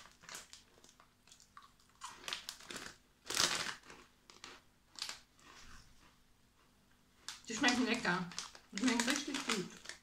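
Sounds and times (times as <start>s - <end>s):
plastic bag crinkling: 0.0s - 5.6s, 7.2s - 10.0s
crunchy biscuit being chewed: 0.0s - 6.2s, 7.2s - 10.0s.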